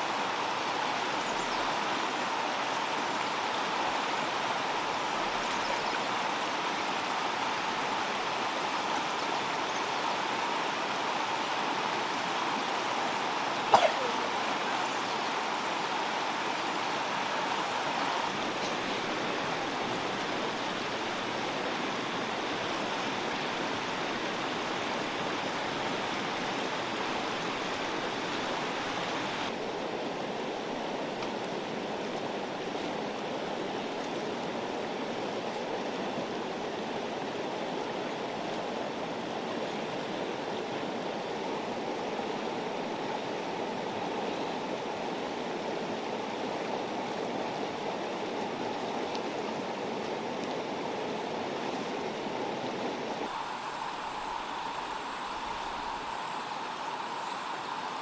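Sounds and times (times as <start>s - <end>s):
fast-flowing river rushing: 0.0s - 58.0s.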